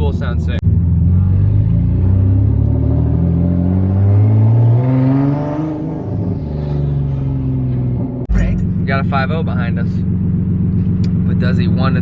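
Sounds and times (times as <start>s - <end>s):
car engine accelerating: 0.1s - 12.0s.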